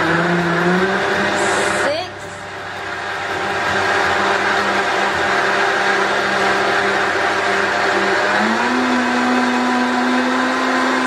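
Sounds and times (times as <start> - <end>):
blender motor whining: 0.0 - 11.0.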